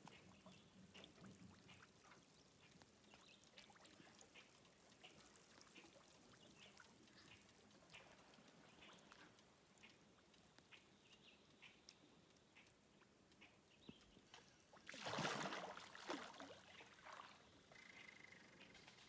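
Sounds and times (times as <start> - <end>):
faint scattered ticks: 0.0 - 14.8, 16.1 - 19.0.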